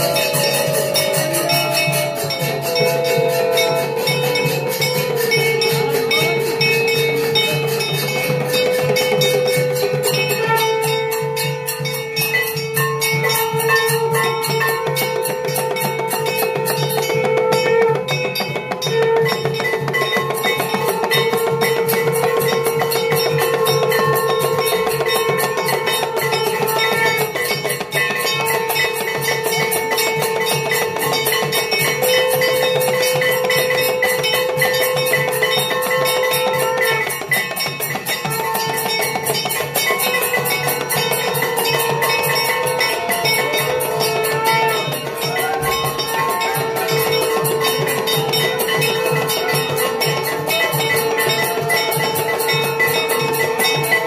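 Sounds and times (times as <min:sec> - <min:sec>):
bells struck rapidly: 0:00.0 - 0:54.0
drums struck rapidly: 0:00.0 - 0:54.0.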